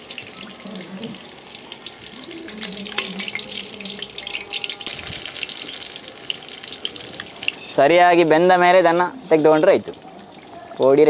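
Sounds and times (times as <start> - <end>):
chillies deep-frying in oil: 0.0 - 11.0.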